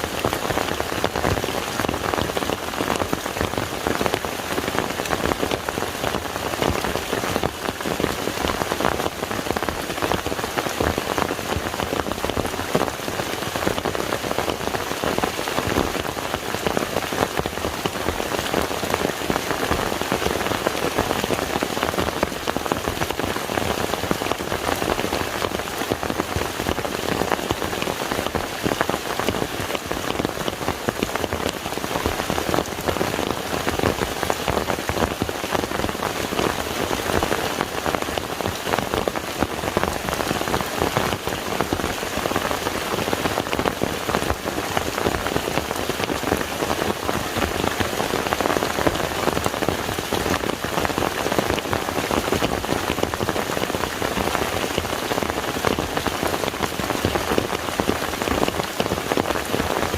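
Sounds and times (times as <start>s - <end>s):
rain falling on water: 0.0s - 59.9s.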